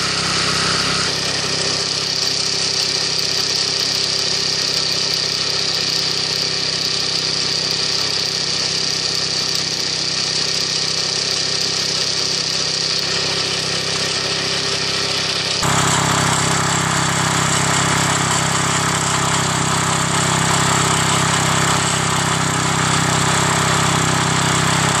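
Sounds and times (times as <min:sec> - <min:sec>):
small lawn mower engine running: 0:00.0 - 0:25.0.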